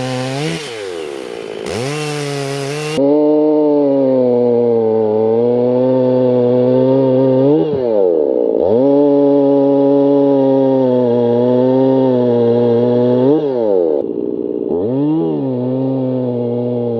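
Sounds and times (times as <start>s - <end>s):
chainsaw revving: 0.0s - 16.9s.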